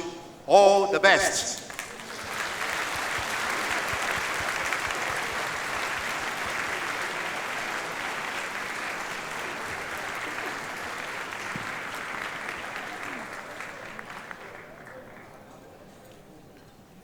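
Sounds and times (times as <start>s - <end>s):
audience applauding: 1.1s - 16.4s.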